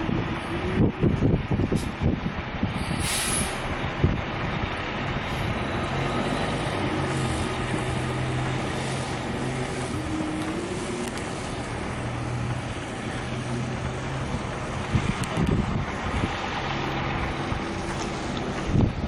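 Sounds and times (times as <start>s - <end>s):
steady rushing noise: 0.0s - 19.0s
vehicle engines idling: 0.0s - 19.0s.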